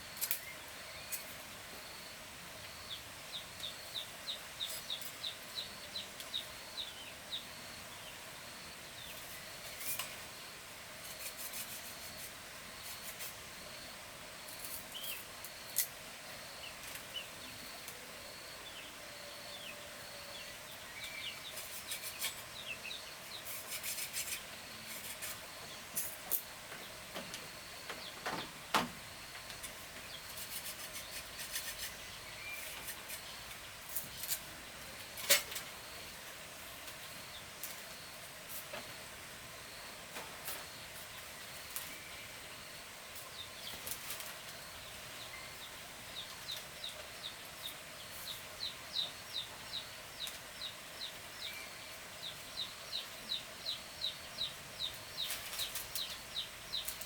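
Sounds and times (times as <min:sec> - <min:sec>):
birds chirping: 0:00.0 - 0:10.5, 0:14.5 - 0:39.1, 0:39.7 - 0:57.0.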